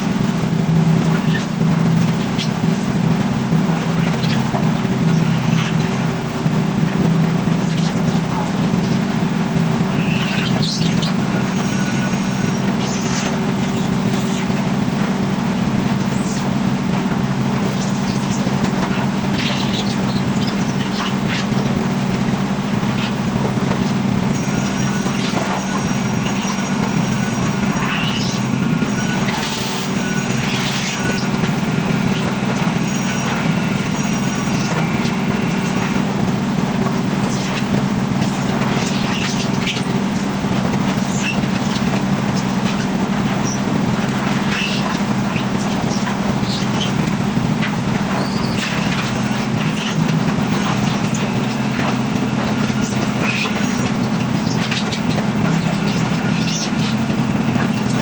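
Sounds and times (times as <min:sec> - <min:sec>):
heavy machinery drone: 0:00.0 - 0:58.0
machinery rattling: 0:00.0 - 0:58.0.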